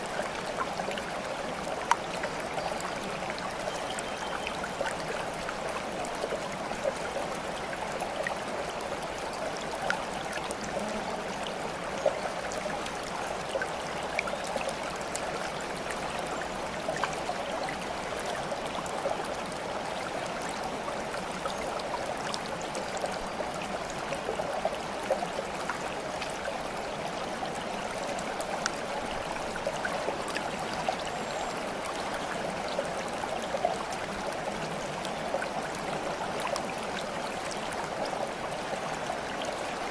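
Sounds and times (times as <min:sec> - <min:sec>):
water babbling in a stream: 0:00.0 - 0:39.9
water drips and splashes: 0:00.0 - 0:39.9.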